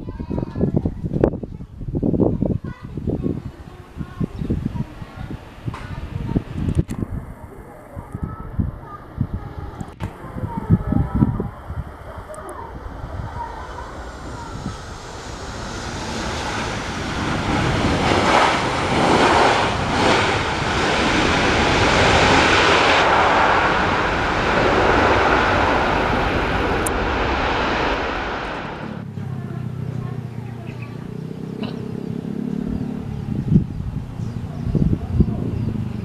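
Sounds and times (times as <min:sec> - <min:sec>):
airliner passing overhead: 0:00.0 - 0:36.0.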